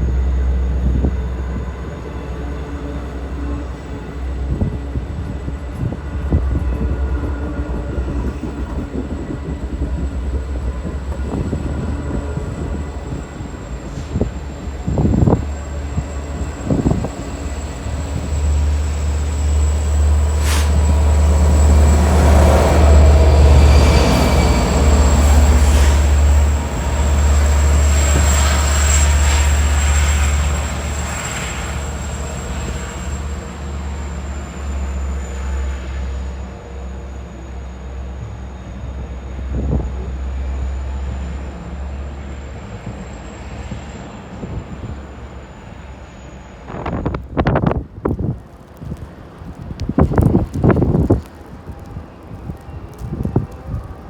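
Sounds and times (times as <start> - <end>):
train passing rumble: 0.0 - 54.0.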